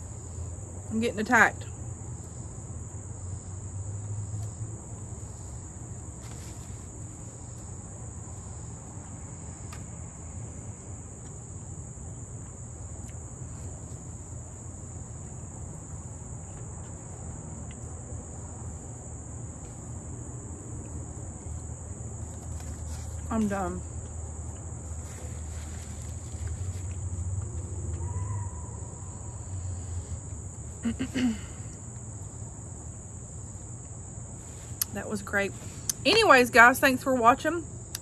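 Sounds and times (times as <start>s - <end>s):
insects droning shrilly: 0.0s - 19.4s, 20.4s - 38.0s.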